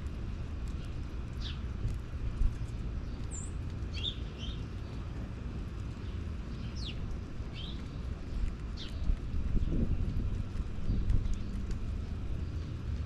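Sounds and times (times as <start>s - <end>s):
songbirds chirping: 0.0s - 13.0s
steady low rumble: 0.0s - 13.0s.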